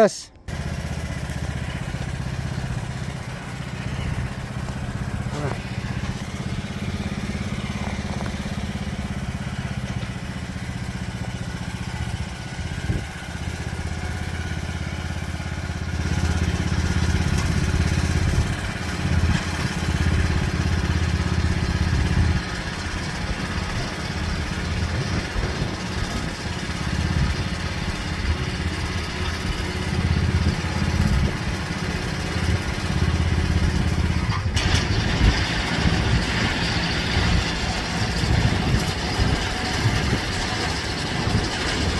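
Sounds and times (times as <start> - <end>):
riding lawn mower engine: 0.4 - 41.9.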